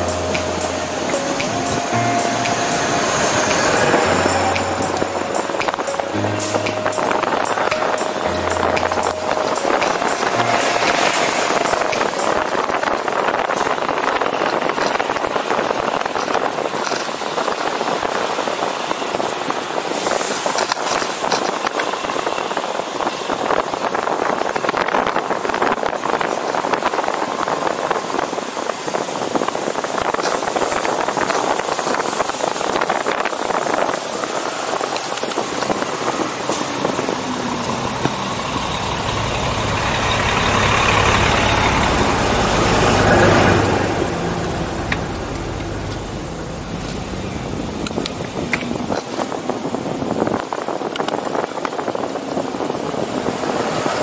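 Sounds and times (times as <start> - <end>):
bus engine rumbling: 0.0 - 54.0
road noise: 0.0 - 54.0
wind noise: 0.0 - 54.0.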